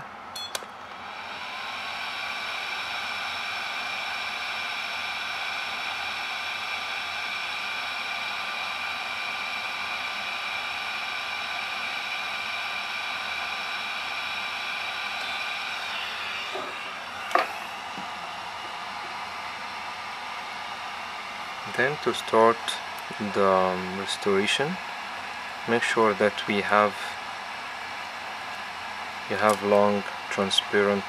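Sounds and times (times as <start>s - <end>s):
cooling fan whirring with whine: 0.0s - 31.0s.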